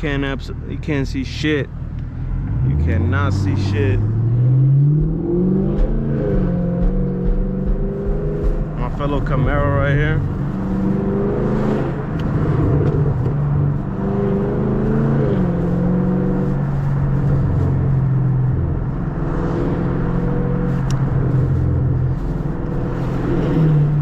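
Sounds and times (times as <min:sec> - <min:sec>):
loud car exhaust from cabin: 0:01.9 - 0:24.0.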